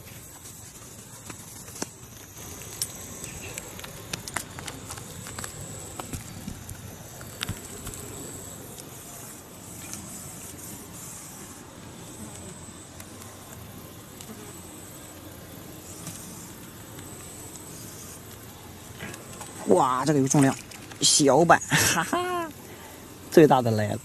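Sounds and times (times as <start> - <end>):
insect trills: 0.0 - 24.0.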